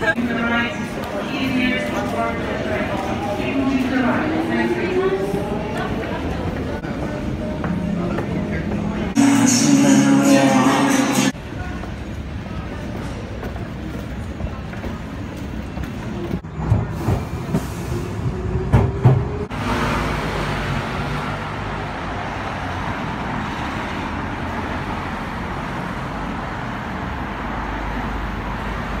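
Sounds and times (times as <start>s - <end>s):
echoing station noise: 0.0s - 29.0s
road traffic: 0.0s - 29.0s.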